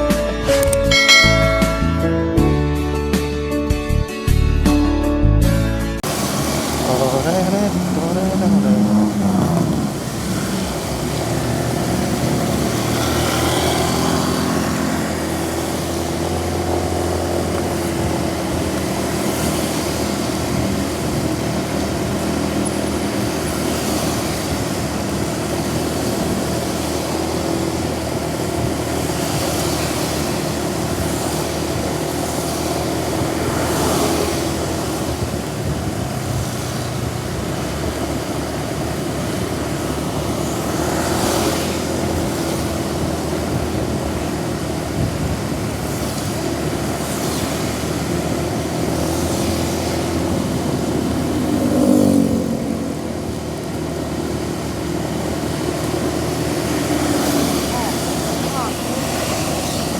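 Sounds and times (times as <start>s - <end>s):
vehicle engine humming: 0.0s - 4.0s, 6.0s - 59.9s
heavy rain hissing: 6.0s - 59.9s
wet road noise: 6.0s - 59.9s.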